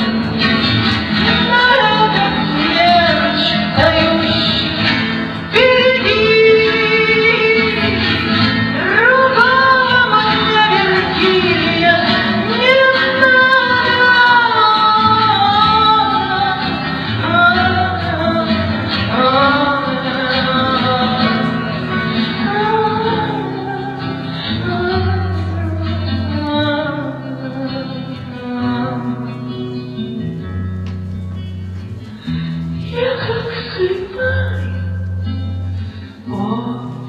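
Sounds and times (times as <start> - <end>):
person singing: 0.0 - 30.4.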